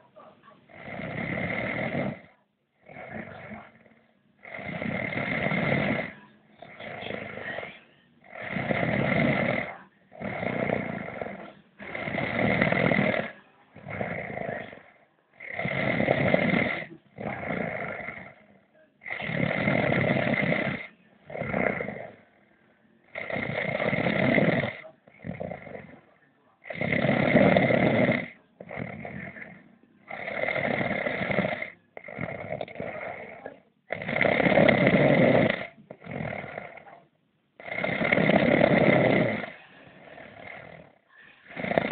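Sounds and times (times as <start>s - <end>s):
man snoring: 0.7s - 18.4s, 19.0s - 22.2s, 23.1s - 37.0s, 37.6s - 41.9s.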